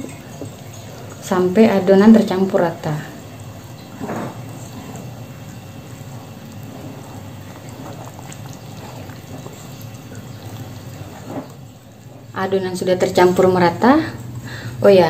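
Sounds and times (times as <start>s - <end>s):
whisk stirring batter in bowl: 0.0s - 12.3s.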